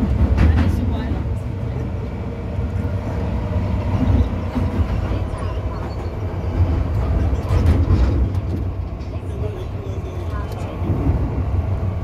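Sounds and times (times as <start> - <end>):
subway car wheels rumbling: 0.0 - 12.0.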